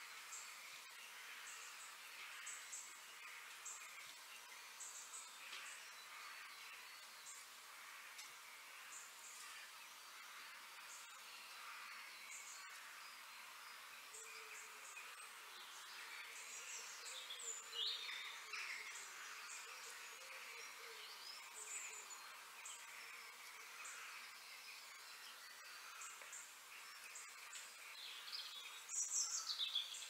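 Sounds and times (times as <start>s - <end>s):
faint insect hum: 0.0s - 30.0s.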